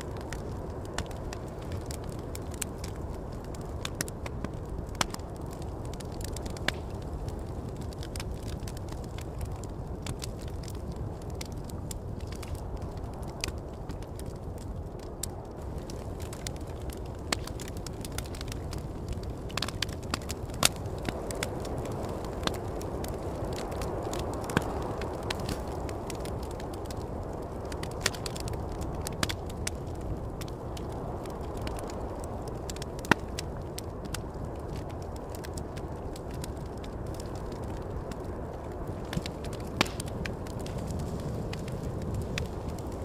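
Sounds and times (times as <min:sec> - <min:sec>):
campfire crackling and popping: 0:00.0 - 0:43.0
low wind rumble: 0:00.0 - 0:43.0.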